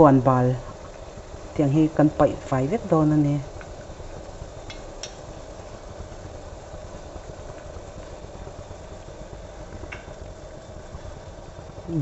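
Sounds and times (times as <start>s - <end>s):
steady hum: 0.0s - 12.0s
syrup bubbling in a pot: 0.0s - 12.0s.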